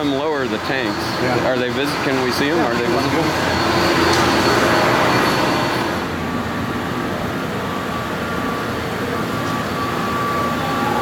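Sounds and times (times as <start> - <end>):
construction machinery rumbling: 0.0 - 11.0
faint high whine: 0.0 - 11.0.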